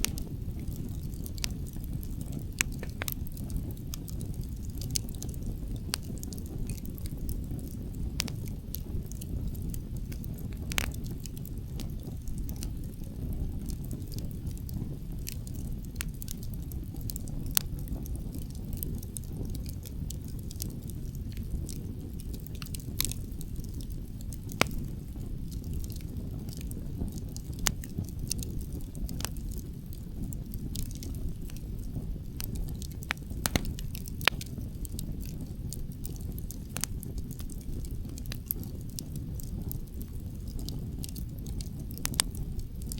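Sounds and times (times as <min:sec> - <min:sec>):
steady low rumble: 0:00.0 - 0:42.9
wood fire crackling and popping: 0:00.0 - 0:42.9.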